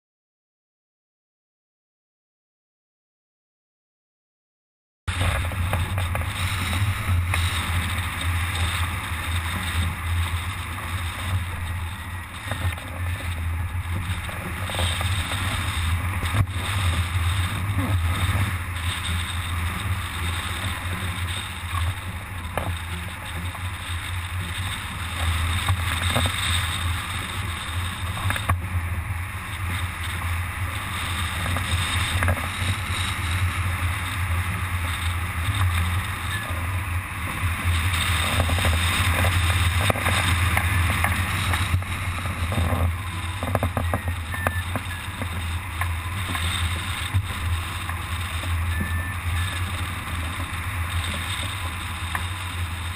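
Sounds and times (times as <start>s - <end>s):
wind buffeting microphone: 5.1s - 52.9s.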